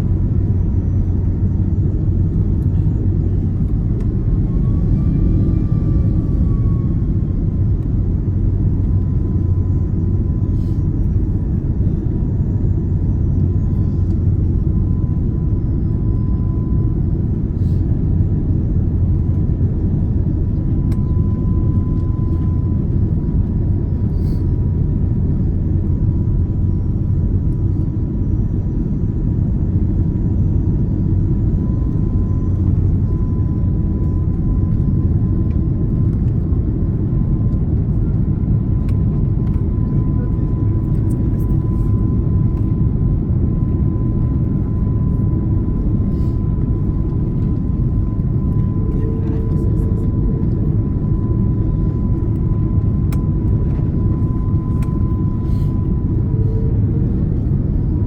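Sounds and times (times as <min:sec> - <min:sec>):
airliner cabin rumble: 0:00.0 - 0:58.0
faint steady whine: 0:00.0 - 0:58.0.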